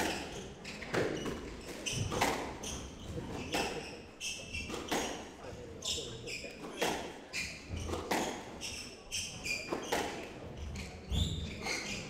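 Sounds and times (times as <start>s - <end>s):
squash ball hitting rackets and walls: 0.0s - 3.8s, 4.5s - 5.3s, 6.5s - 12.0s
shoes squeaking on wooden floor: 0.1s - 5.1s, 5.9s - 12.0s.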